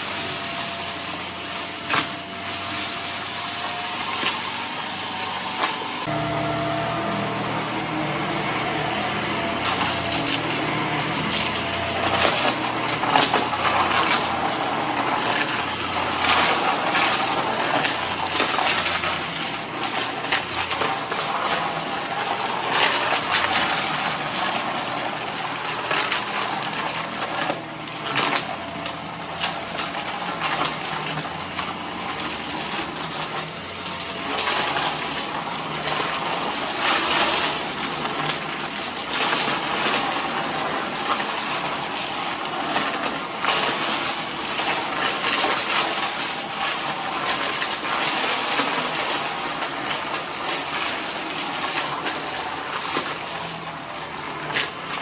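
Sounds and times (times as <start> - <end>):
debris rattling inside vacuum: 0.0 - 6.1, 9.5 - 55.0
vacuum cleaner running: 0.0 - 55.0.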